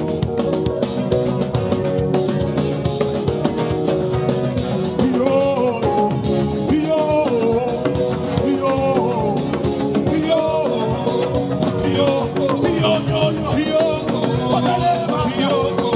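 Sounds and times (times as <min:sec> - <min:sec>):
drum beat: 0:00.0 - 0:15.9
guitar: 0:00.0 - 0:15.9
upbeat band music: 0:00.0 - 0:15.9.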